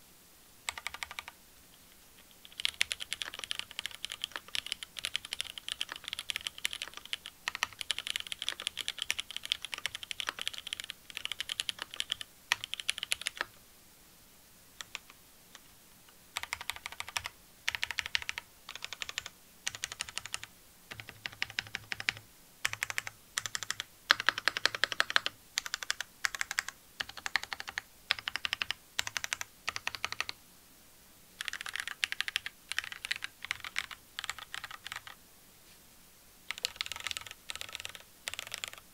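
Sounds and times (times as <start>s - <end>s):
mechanical keyboard typing: 0.7s - 1.4s, 2.4s - 13.5s, 14.8s - 15.1s, 16.4s - 30.4s, 31.4s - 35.2s, 36.5s - 38.9s.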